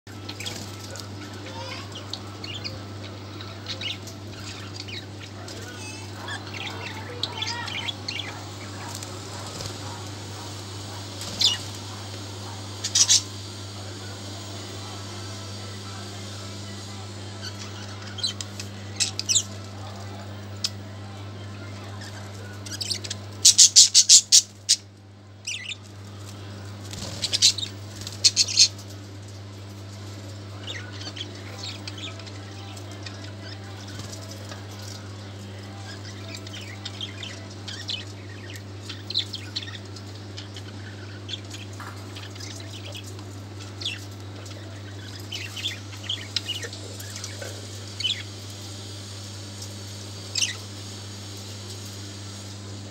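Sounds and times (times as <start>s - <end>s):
budgerigars chirping and squawking: 0.1s - 25.9s, 26.9s - 29.0s, 30.1s - 52.4s
steady low hum: 0.1s - 52.9s.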